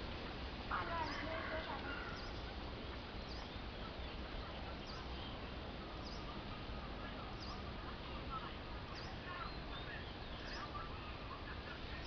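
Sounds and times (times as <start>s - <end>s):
faint bird calls: 0.7s - 12.0s.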